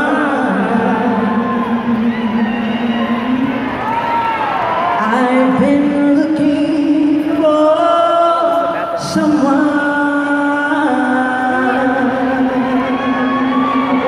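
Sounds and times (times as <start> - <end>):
woman singing long notes: 0.0 - 3.7, 5.0 - 14.0.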